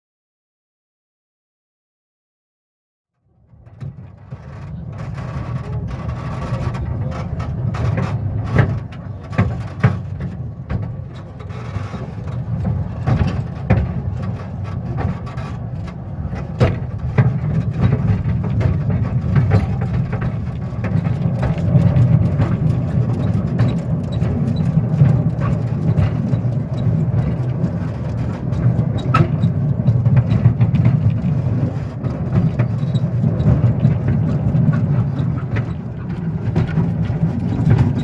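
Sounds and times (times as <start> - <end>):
train clanks and knocks: 3.5 - 38.0
locomotive engine running: 3.9 - 38.0.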